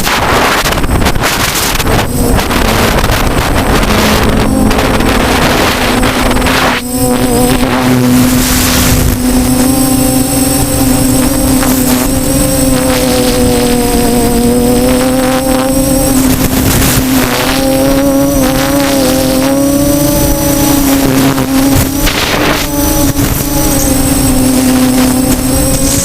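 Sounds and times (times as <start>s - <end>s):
quadcopter motors buzzing: 0.0s - 26.0s
wind noise on microphone: 0.0s - 26.0s.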